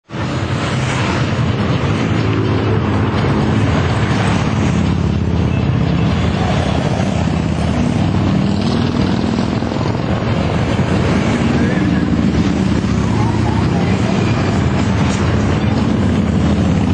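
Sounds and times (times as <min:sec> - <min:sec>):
wind and road noise: 0:00.0 - 0:16.9
motorcycle engines cruising: 0:00.1 - 0:16.9.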